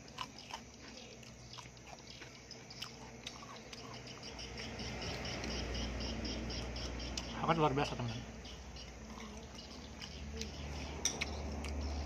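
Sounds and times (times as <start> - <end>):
chewing and crunching cucumber: 0.0 - 7.4, 8.8 - 12.0
insects chirping: 0.0 - 12.0.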